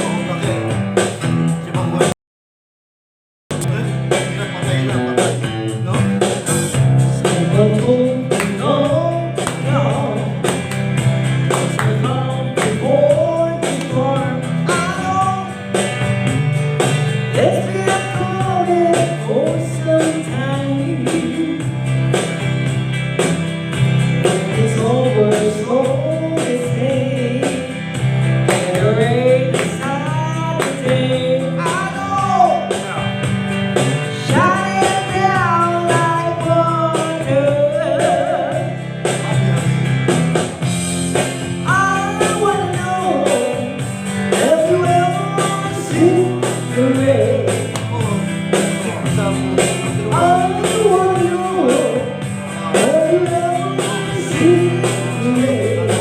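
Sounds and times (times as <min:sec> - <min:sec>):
country-rock song: 0:00.0 - 0:02.2, 0:03.5 - 0:56.0
guitar: 0:00.0 - 0:02.2, 0:03.5 - 0:56.0
low bass line: 0:03.5 - 0:56.0.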